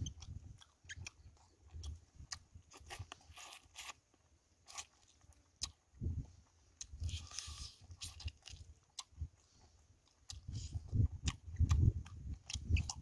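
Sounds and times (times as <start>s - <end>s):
mouth smacks and clicks: 0.0s - 4.0s, 5.6s - 13.0s
person biting and chewing food: 0.0s - 13.0s.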